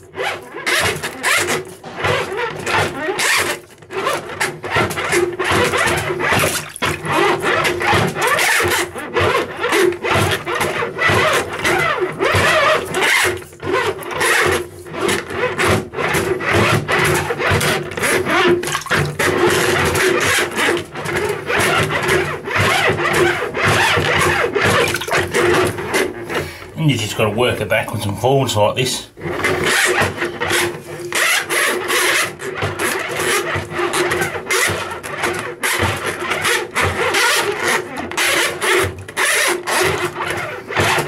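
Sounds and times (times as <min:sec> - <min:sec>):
drain auger cable grinding in pipe: 0:00.0 - 0:41.0.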